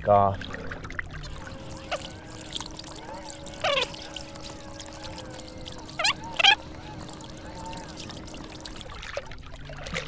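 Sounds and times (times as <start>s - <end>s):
water sloshing: 0.0s - 10.0s
water splashing and trickling: 0.0s - 10.0s.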